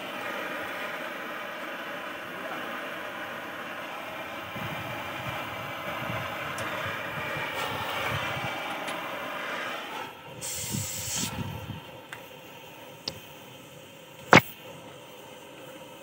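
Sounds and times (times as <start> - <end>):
cutting torch hissing: 0.0 - 16.0
high gas hiss: 0.0 - 16.0.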